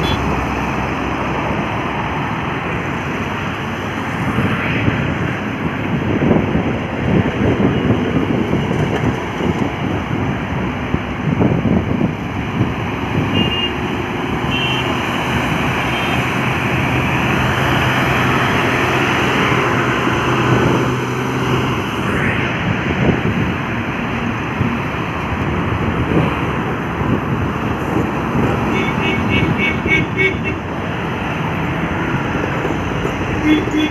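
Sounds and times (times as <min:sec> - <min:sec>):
truck engine drone: 0:00.0 - 0:28.7
heavy trucks passing on highway: 0:00.0 - 0:33.9.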